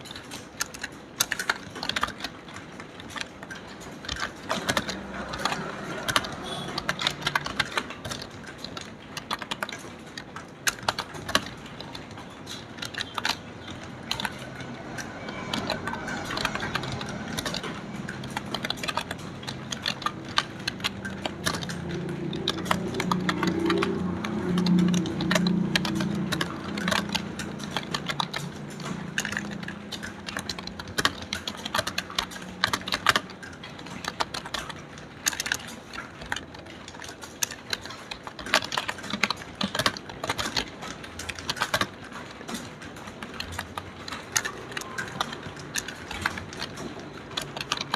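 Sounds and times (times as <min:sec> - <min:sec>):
fast typing on keyboard: 0:00.0 - 0:47.9.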